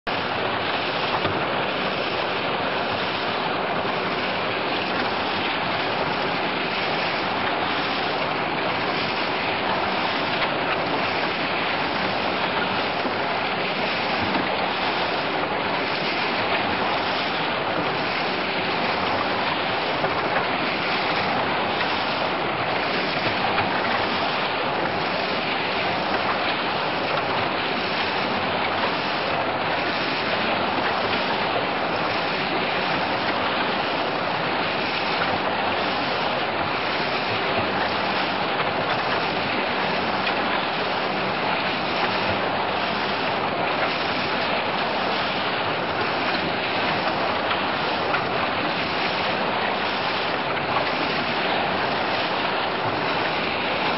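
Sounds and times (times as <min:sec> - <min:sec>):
cement mixer churning: 0:00.1 - 0:53.9.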